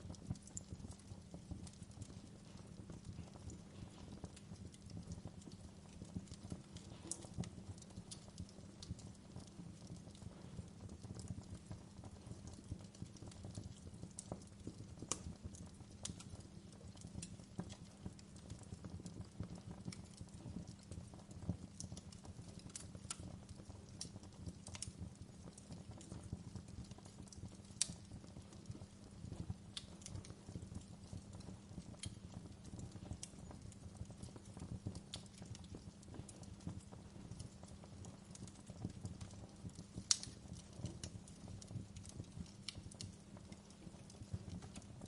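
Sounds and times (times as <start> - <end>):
wood fire crackling and popping: 0.0 - 45.0.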